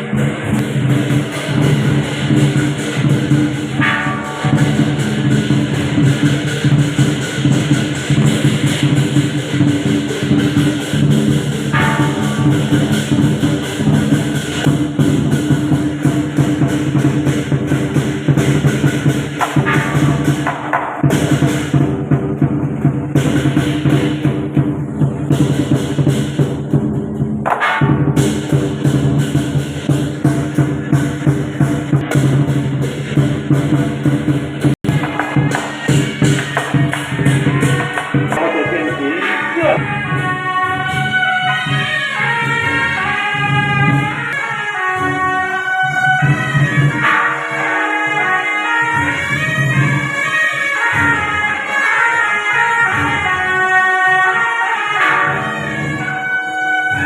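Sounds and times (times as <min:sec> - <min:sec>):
procession music with drums: 0:00.0 - 0:57.0.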